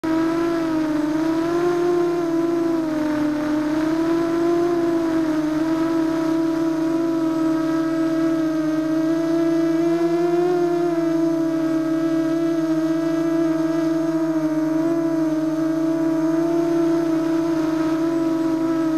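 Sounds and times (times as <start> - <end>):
drone motors whining: 0.1 - 18.9.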